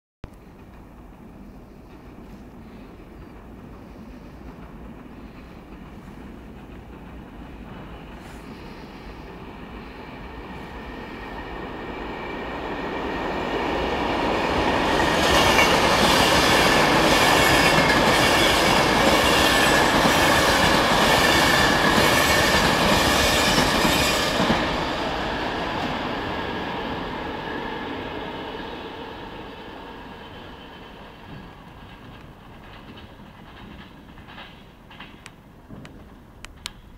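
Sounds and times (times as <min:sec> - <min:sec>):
electric train passing at speed: 0:00.3 - 0:36.9.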